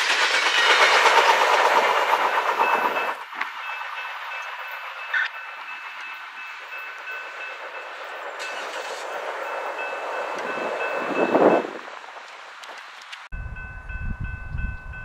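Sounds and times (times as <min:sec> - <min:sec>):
level-crossing warning bells: 0:00.5 - 0:12.0, 0:13.4 - 0:15.0.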